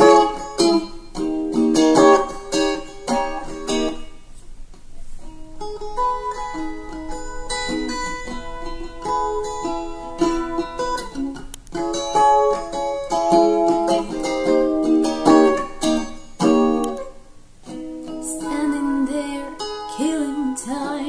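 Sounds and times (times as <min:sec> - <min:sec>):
electric ukulele notes and chords: 0:00.0 - 0:04.2, 0:05.3 - 0:21.0.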